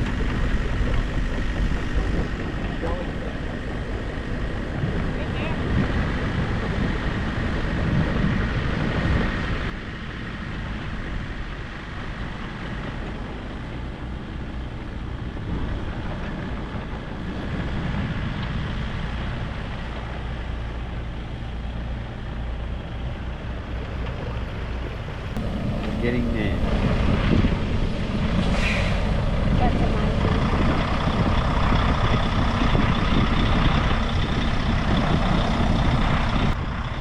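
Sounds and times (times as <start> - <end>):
heavy truck engine under load: 0.0 - 37.0.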